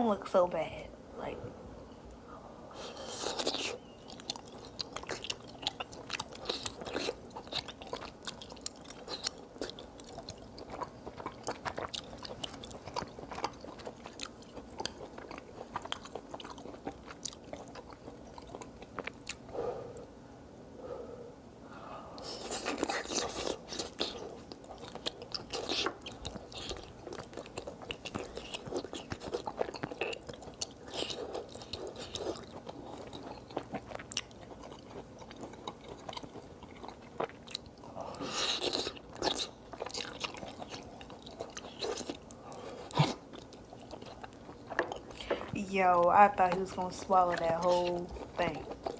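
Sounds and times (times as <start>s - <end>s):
man chewing with wet smacking: 2.8s - 20.1s, 22.1s - 45.6s, 46.4s - 48.9s.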